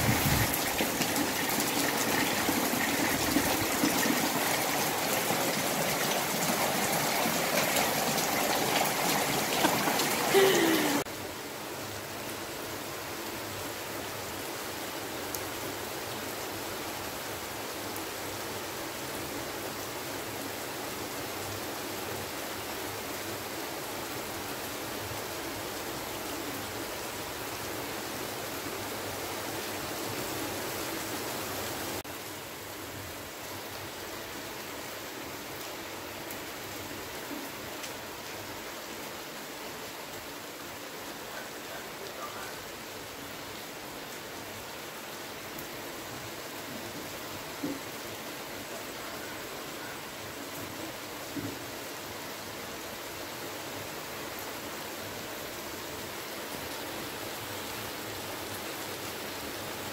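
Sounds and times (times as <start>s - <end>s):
rain splashing on wet ground: 0.0s - 59.9s.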